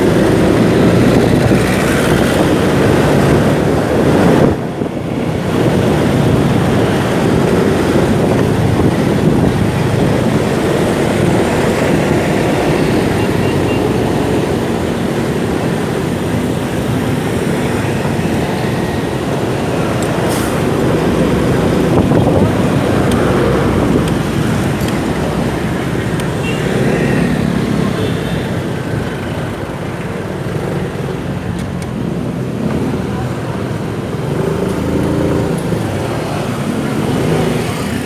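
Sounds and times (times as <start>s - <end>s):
wind and road noise: 0.0s - 38.0s.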